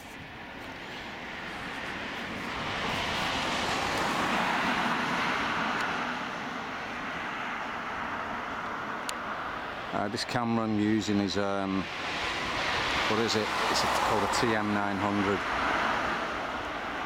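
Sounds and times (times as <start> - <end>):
car passing: 0.0 - 17.0.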